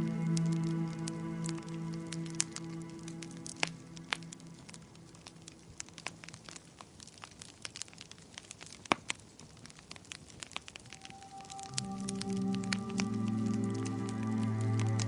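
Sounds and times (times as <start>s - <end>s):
soft held music tones: 0.0s - 15.0s
wood fire crackling: 0.0s - 15.0s.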